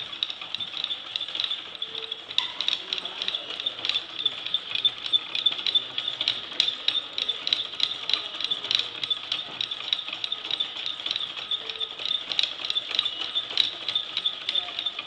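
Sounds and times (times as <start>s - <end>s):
wooden mechanism clicking and rattling: 0.0s - 15.0s.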